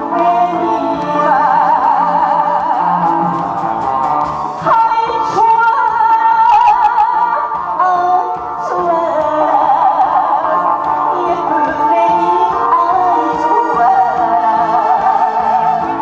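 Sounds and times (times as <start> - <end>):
woman singing into a microphone: 0.0 - 3.5, 4.6 - 16.0
amplified backing music: 0.0 - 16.0.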